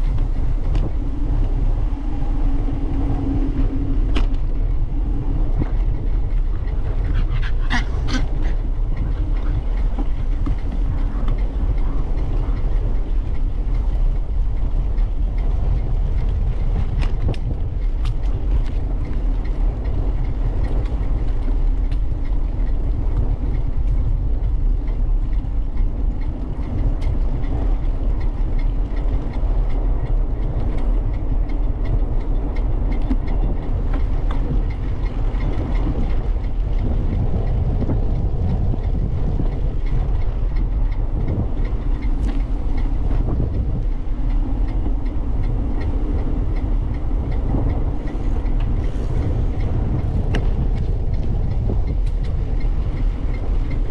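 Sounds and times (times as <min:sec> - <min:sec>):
bicycle rumbling along path: 0:00.0 - 0:53.9
faint ticks and rattles: 0:00.0 - 0:53.9.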